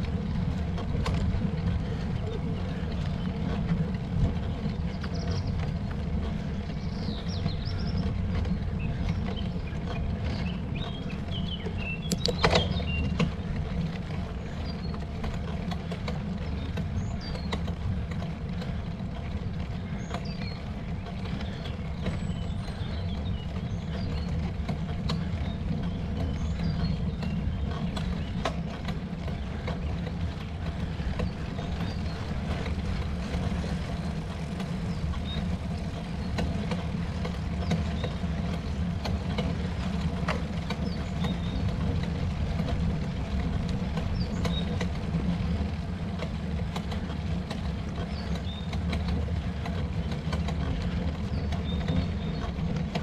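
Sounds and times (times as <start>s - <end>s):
wind and road noise rumble: 0.0s - 53.0s.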